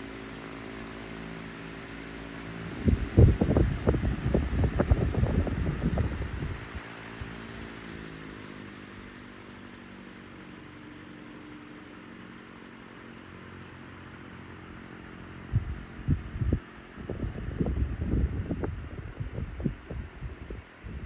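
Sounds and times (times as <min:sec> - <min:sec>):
fan air rushing: 0:00.0 - 0:21.0
fan motor humming: 0:00.0 - 0:21.0.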